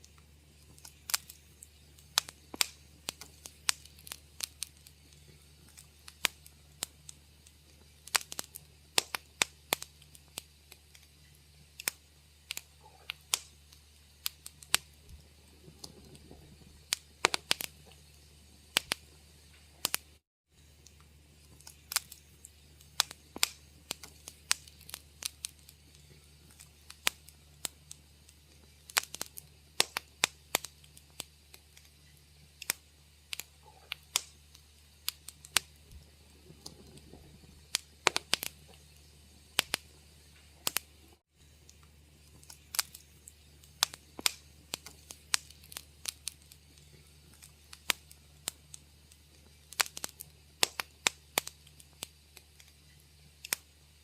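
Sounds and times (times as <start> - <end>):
low steady hum: 0.0 - 54.0
wood fire crackling: 0.0 - 54.0.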